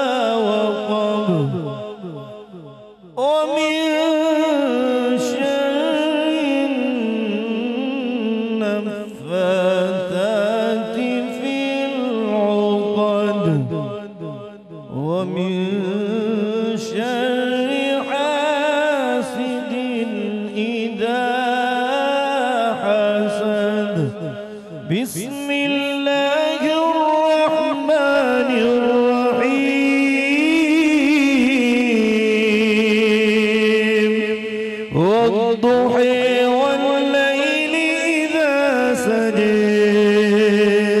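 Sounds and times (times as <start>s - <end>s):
person reciting melodically: 0.0s - 41.0s.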